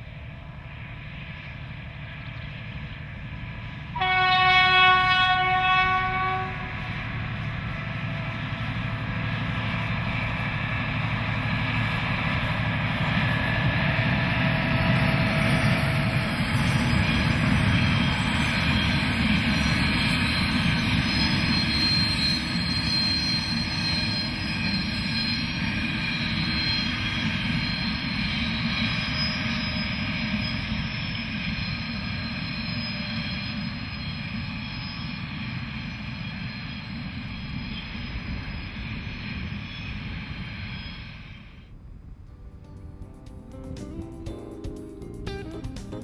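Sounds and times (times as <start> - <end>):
diesel locomotive engine drone: 0.0 - 46.0
rumble of freight wagons: 0.0 - 46.0.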